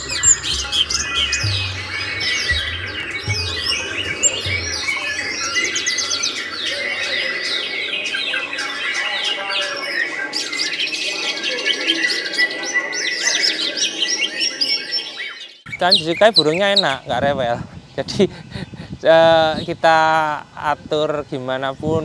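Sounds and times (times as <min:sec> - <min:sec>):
birds singing trills: 0:00.0 - 0:22.0.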